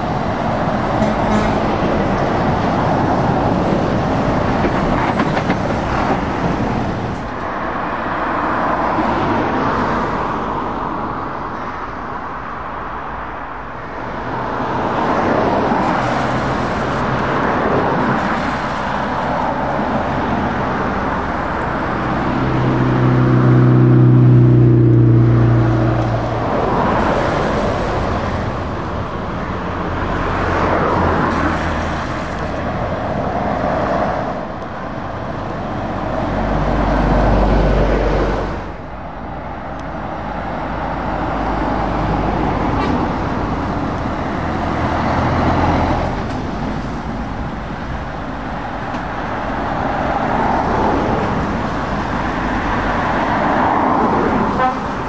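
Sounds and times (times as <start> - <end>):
trucks and cars driving past: 0.0 - 55.0.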